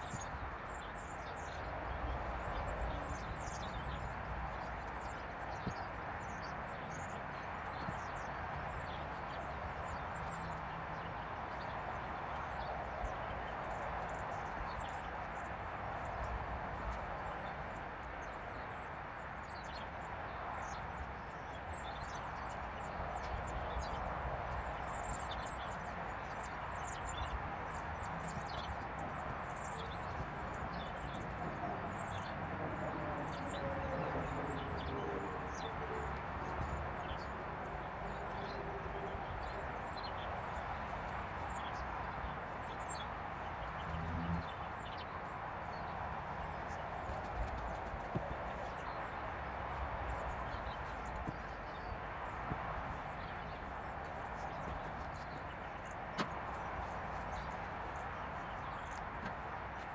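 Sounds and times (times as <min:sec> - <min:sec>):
small birds chirping: 0:00.0 - 0:18.8, 0:19.4 - 0:59.9.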